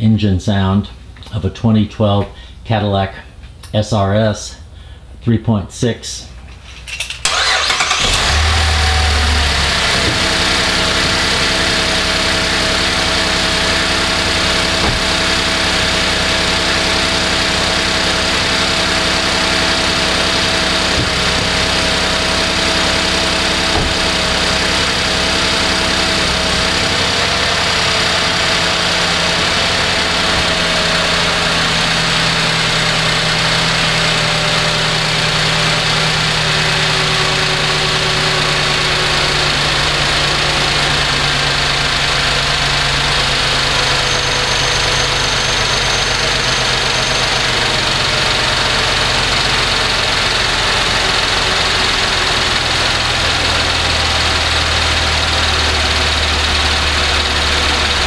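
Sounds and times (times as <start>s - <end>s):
car engine starting and idling: 7.0s - 58.0s.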